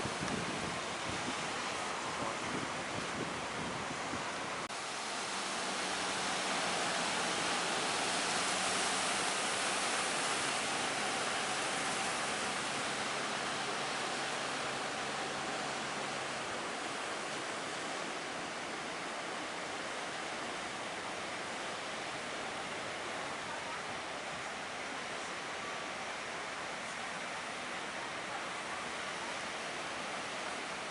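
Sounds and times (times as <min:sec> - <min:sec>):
waves breaking: 0:00.0 - 0:30.9.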